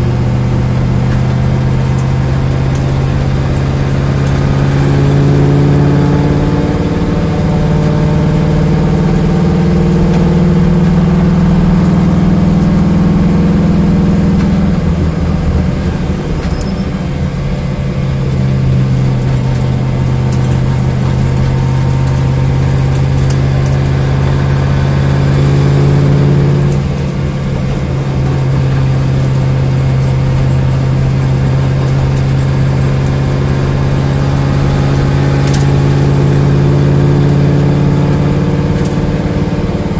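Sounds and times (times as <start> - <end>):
car engine idling with misfire: 0.0 - 39.9.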